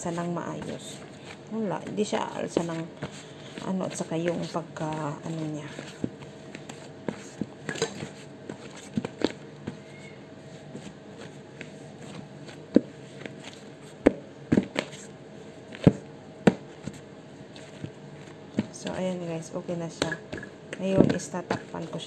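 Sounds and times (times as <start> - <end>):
dough thumping and slapping: 0.0 - 9.9, 10.6 - 15.1, 15.7 - 17.0, 17.6 - 22.0.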